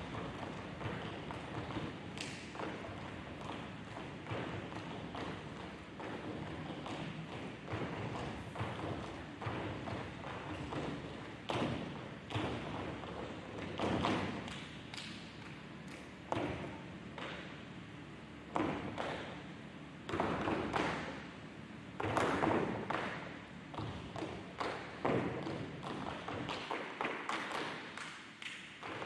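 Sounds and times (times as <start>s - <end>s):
tap shoes on stage floor: 0.0s - 17.6s, 18.5s - 19.4s, 20.1s - 21.2s, 22.0s - 29.0s.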